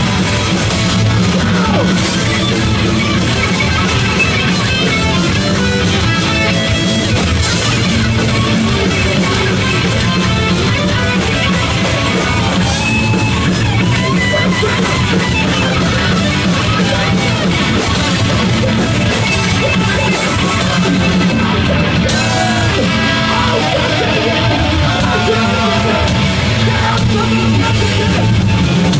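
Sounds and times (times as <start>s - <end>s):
punk band playing live: 0.0s - 28.9s.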